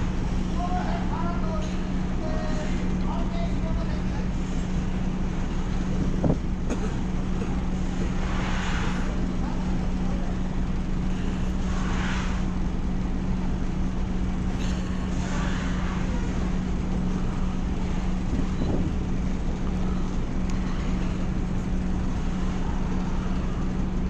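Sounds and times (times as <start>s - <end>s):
ferry engine droning: 0.0s - 24.0s.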